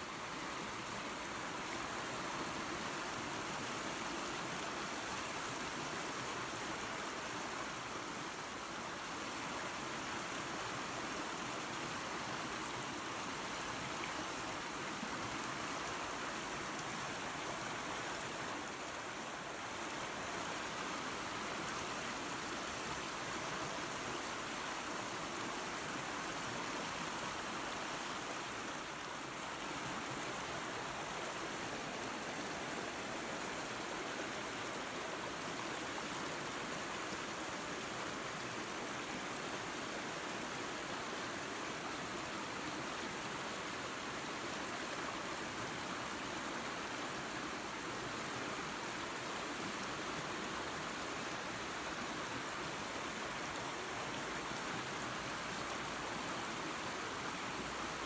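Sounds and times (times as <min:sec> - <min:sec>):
waterfall and creek rushing: 0:00.0 - 0:58.0.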